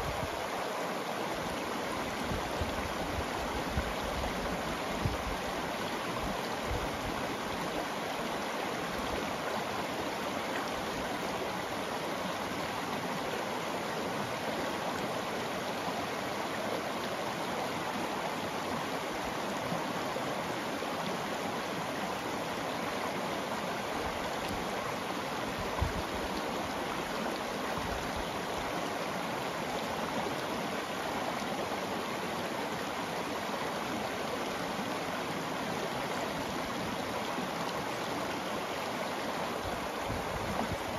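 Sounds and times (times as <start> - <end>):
river flowing over rocks: 0.0 - 40.9.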